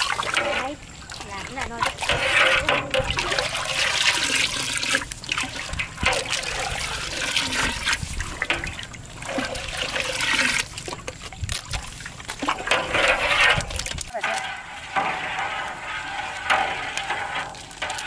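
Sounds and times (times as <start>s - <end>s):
liquid pouring and trickling: 0.0s - 18.0s.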